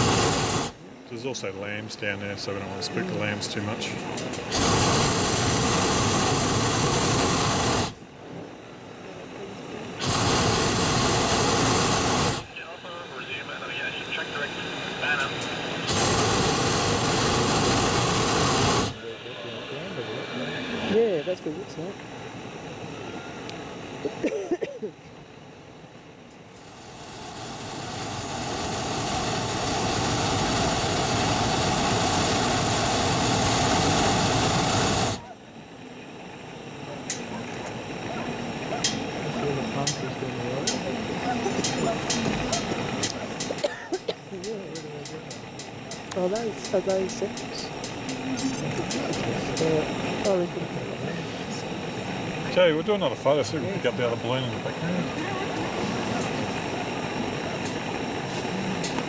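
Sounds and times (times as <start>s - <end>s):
propane burner blasts: 0.0s - 59.0s.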